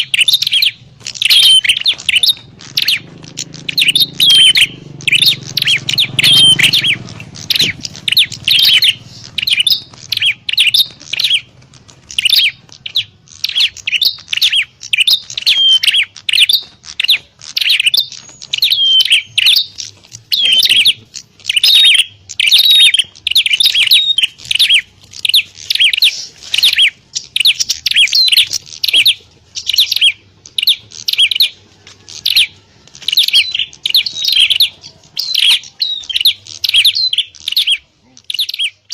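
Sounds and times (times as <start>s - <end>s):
birds chirping sharply: 0.0s - 38.9s.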